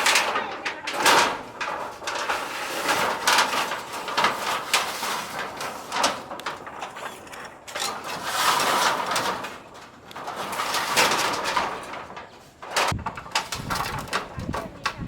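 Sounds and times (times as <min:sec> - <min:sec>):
scraping sound: 0:00.0 - 0:14.6
roofing sheets clattering: 0:00.0 - 0:15.0.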